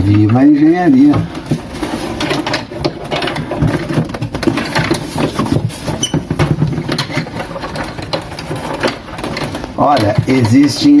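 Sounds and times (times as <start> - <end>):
plastic parts clicking and scraping: 0.0 - 11.0.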